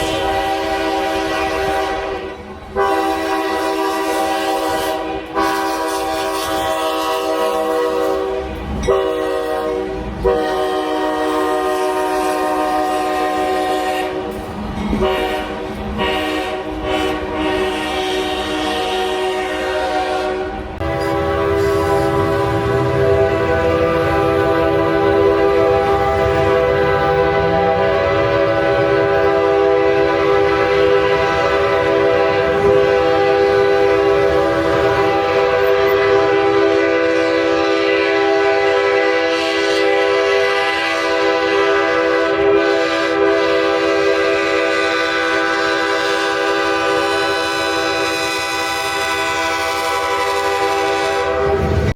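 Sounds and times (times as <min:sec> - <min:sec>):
locomotive air horn chord: 0:00.0 - 0:51.9.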